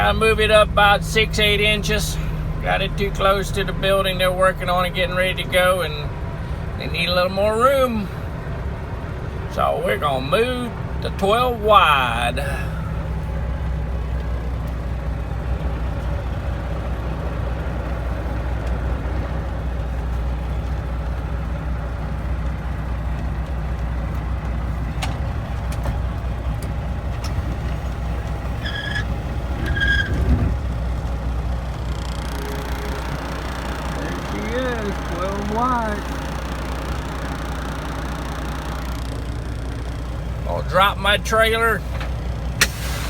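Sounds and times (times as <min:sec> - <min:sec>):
diesel truck engine running: 0:00.0 - 0:43.0.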